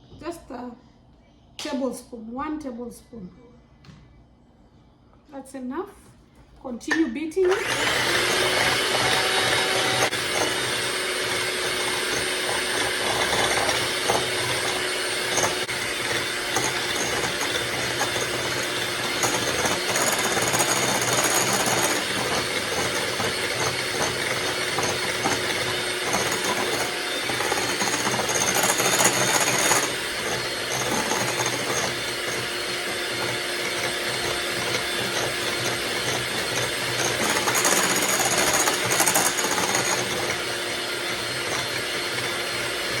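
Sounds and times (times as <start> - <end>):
electric mixer running: 7.4 - 43.0.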